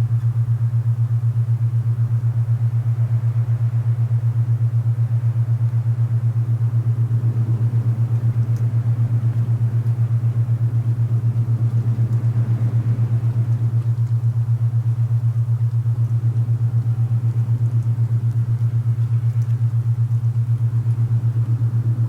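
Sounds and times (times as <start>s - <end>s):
pulsing low hum: 0.0s - 22.0s.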